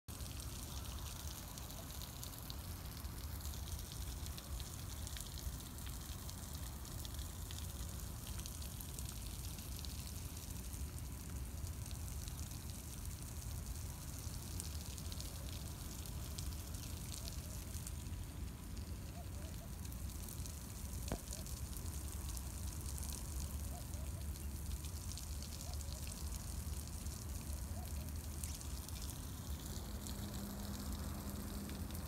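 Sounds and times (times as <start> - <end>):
crackling hiss: 0.1 - 32.0.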